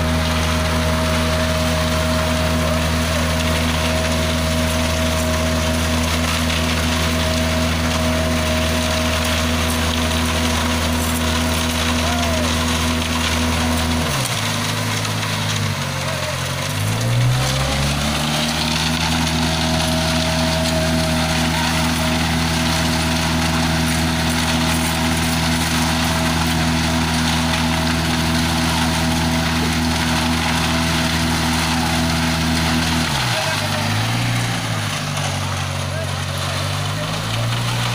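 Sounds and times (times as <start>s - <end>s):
concrete pouring down chute: 0.0s - 37.9s
diesel engine running: 0.0s - 37.9s.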